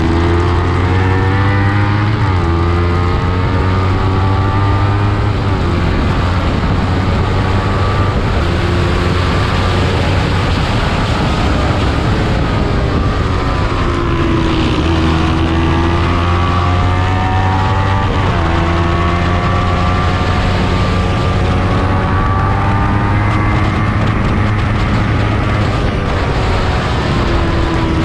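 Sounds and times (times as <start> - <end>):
race motorcycle engine: 0.0 - 28.0
rushing noise: 0.0 - 28.0.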